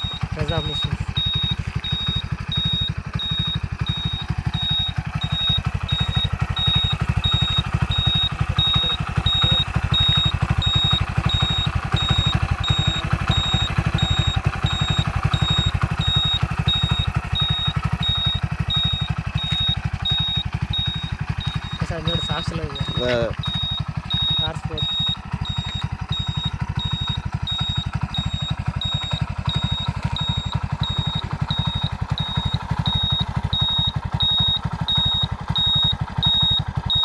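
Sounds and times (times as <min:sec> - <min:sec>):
motorcycle engine idling: 0:00.0 - 0:37.0
thin high-pitched beeps: 0:00.0 - 0:37.0.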